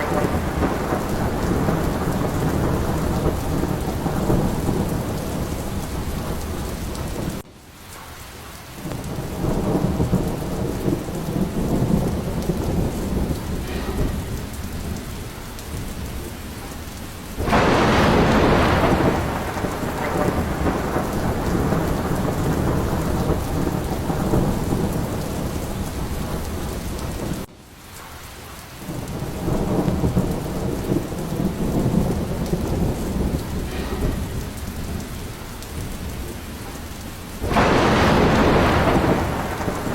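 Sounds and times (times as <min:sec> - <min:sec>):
loud thunderclap: 0:00.0 - 0:07.4, 0:08.8 - 0:27.5, 0:28.8 - 0:39.9
low rolling thunder: 0:00.0 - 0:07.5, 0:08.6 - 0:28.1, 0:28.7 - 0:39.9
heavy rain: 0:00.0 - 0:39.9.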